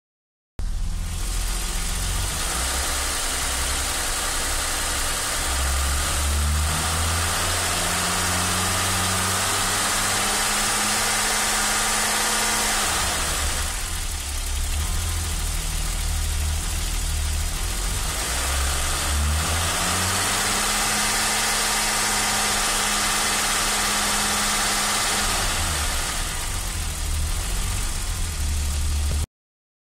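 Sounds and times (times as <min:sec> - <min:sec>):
car engine revving: 0:00.6 - 0:29.3.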